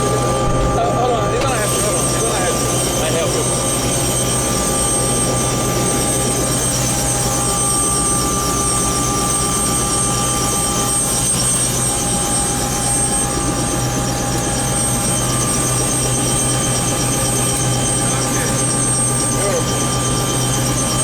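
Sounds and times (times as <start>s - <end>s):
helicopter rotor and turbine drone: 0.0s - 21.0s
turbine whine: 0.0s - 21.0s.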